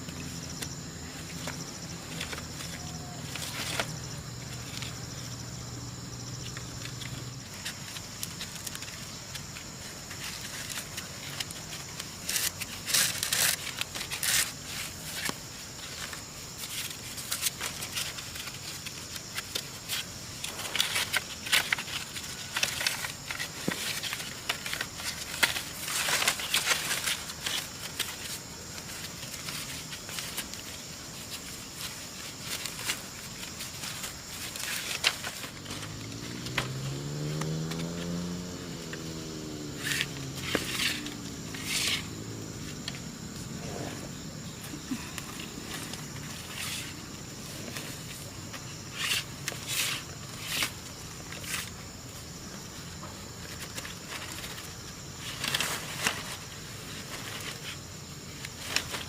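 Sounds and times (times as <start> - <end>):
dry leaves and twigs crackling: 0.0 - 59.0
insects droning: 0.0 - 59.0.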